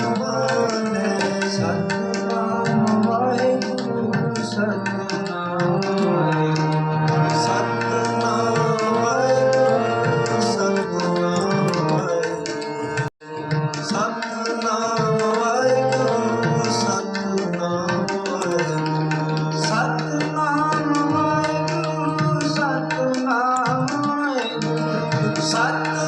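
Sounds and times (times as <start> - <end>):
harmonium notes: 0.0 - 26.0
tabla playing: 0.0 - 26.0
wavering vocal melody: 0.0 - 26.0.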